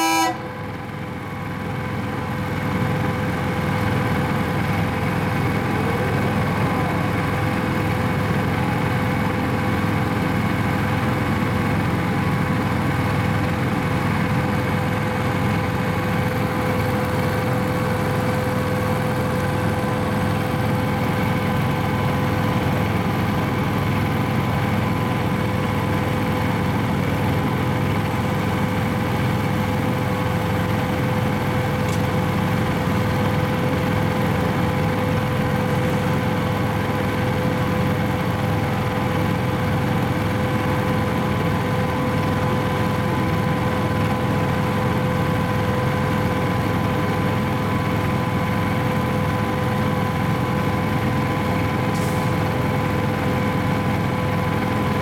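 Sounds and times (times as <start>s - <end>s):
train equipment hum with whine: 0.0s - 55.0s.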